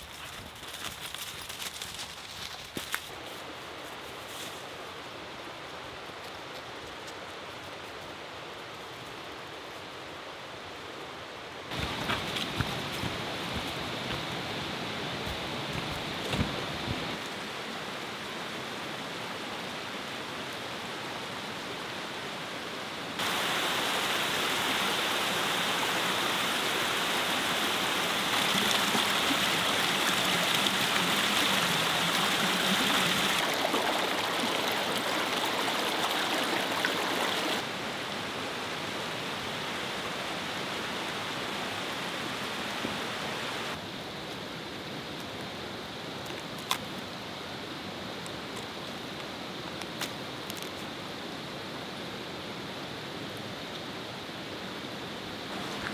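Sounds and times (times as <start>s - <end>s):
stream running over rocks: 1.4s - 55.9s.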